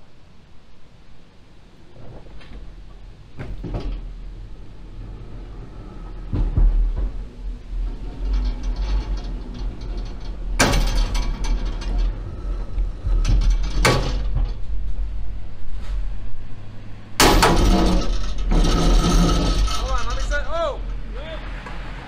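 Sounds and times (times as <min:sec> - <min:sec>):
steady low rumble: 0:00.0 - 0:22.0
cable and pulley clanking: 0:02.0 - 0:15.4, 0:17.2 - 0:21.8.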